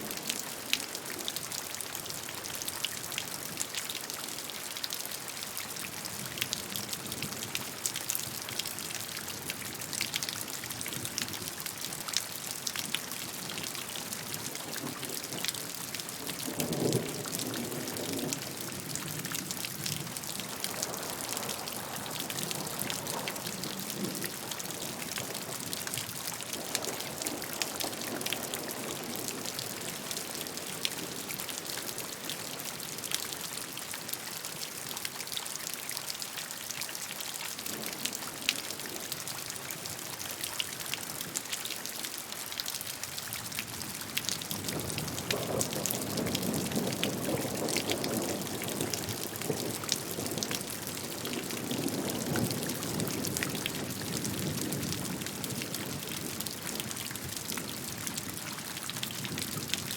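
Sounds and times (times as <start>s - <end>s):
rain drops falling: 0.0s - 59.9s.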